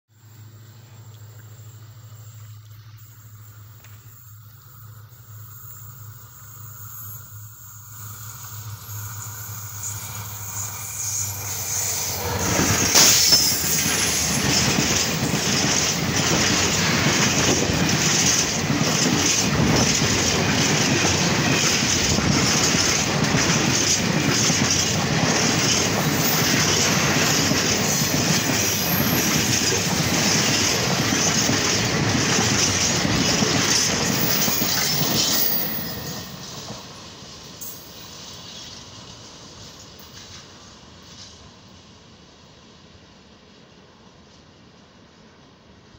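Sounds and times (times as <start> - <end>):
freight train passing: 0.2 - 45.9.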